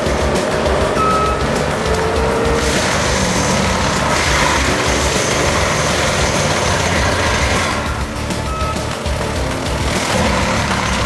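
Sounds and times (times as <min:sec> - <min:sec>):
loader engine under load: 0:00.0 - 0:11.0
mulcher grinding brush: 0:00.0 - 0:11.0.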